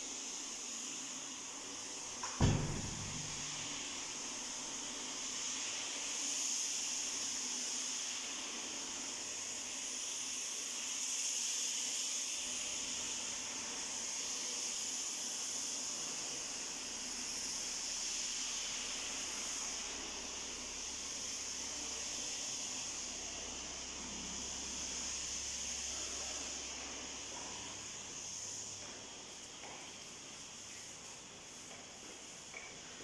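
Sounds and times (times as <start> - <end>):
steady high hiss: 0.0 - 33.0.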